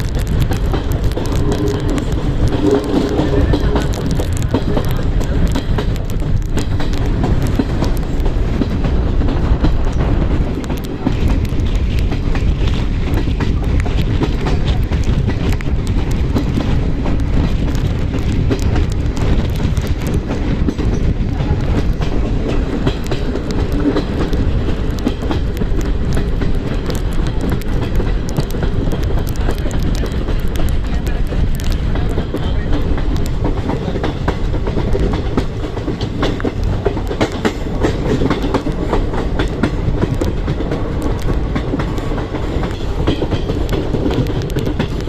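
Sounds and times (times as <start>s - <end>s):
train rumbling on track: 0.0s - 45.0s
wheels clicking on rails: 0.0s - 45.0s.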